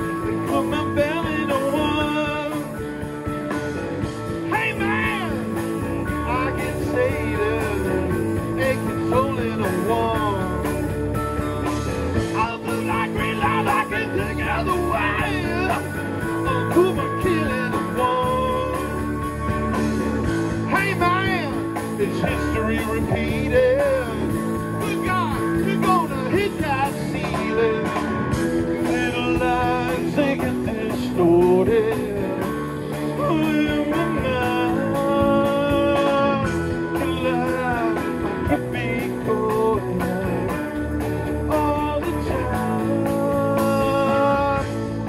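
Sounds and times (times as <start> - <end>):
bending lead guitar line: 0.0 - 45.0
live blues-rock band: 0.0 - 45.0.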